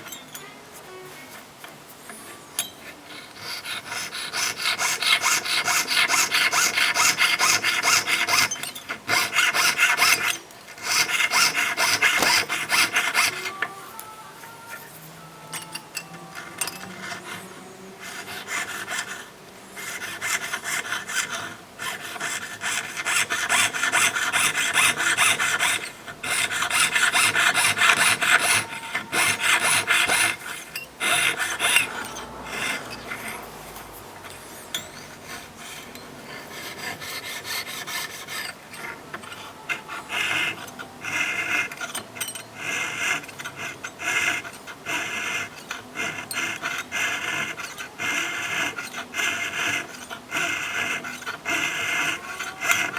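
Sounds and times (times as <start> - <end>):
fretsaw rasping through metal: 2.0 - 52.9.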